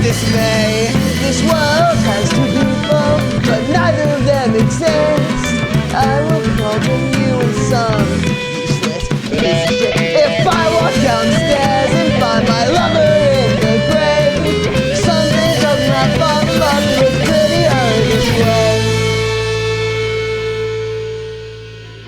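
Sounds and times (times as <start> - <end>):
bending lead guitar melody: 0.0 - 22.0
rock band playing: 0.0 - 22.0.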